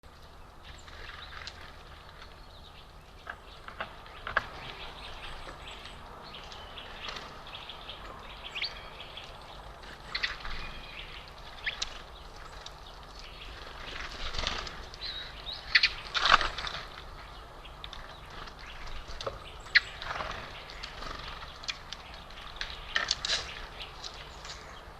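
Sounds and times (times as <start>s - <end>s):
outdoor background noise: 0.0s - 24.9s
small birds chirping: 0.0s - 24.9s.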